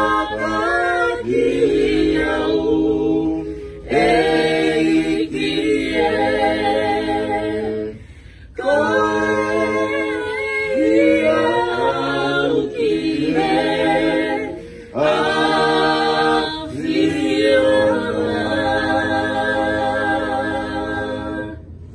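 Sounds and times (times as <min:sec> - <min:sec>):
group singing a hymn: 0:00.0 - 0:21.9.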